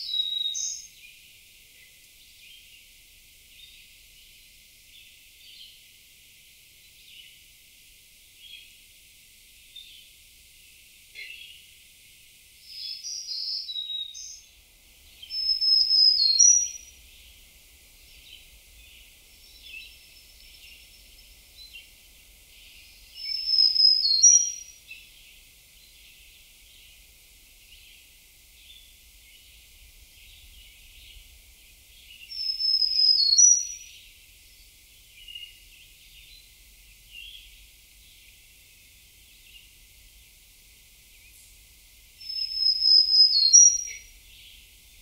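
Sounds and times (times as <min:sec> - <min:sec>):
faint chirping: 0:00.0 - 0:05.8, 0:12.6 - 0:45.0
songbird singing: 0:00.0 - 0:45.0.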